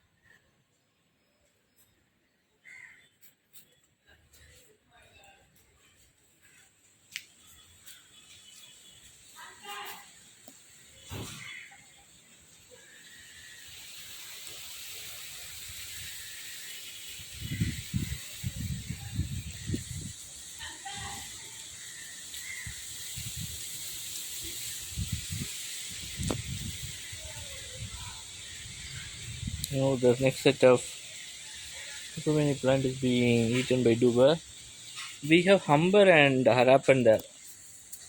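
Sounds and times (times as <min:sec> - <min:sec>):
high-pitched outdoor hiss: 0:00.0 - 0:38.0.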